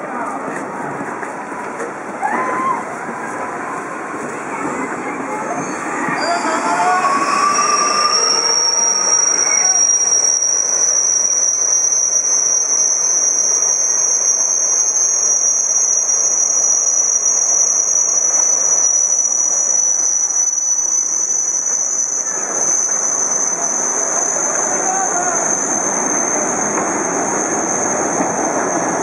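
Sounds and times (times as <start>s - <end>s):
high-pitched whine: 5.0s - 29.0s.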